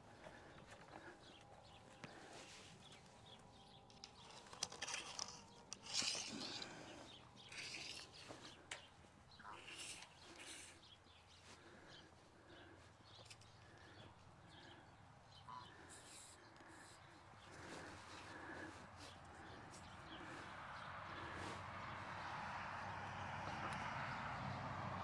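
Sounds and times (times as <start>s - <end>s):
faint bird calls: 0.0s - 24.4s.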